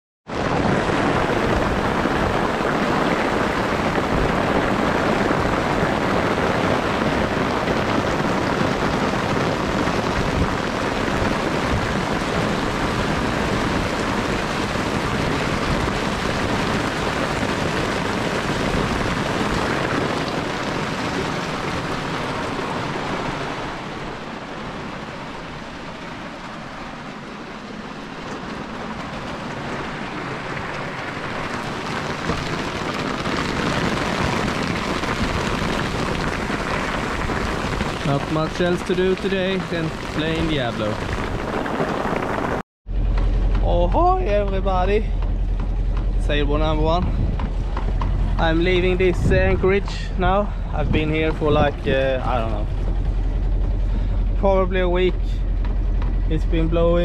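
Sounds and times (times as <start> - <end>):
heavy rain on boat and water: 0.2 - 57.0.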